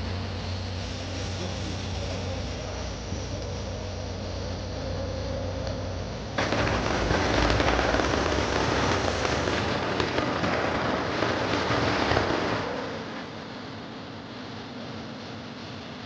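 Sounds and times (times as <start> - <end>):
fireworks crackling: 0.0 - 4.8, 5.6 - 14.2.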